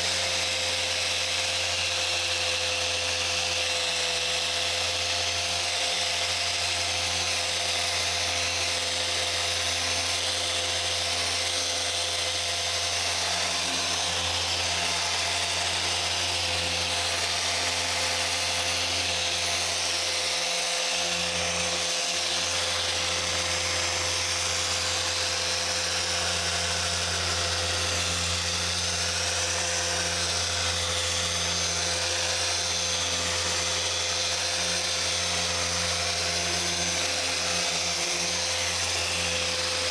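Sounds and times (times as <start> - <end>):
mini polisher buzzing: 0.0 - 39.9.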